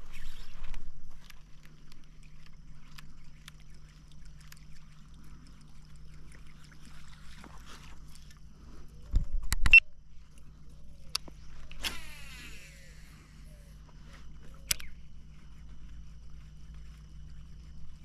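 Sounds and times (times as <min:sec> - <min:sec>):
faint ticks: 0:00.6 - 0:08.5, 0:09.1 - 0:12.6, 0:13.7 - 0:18.0.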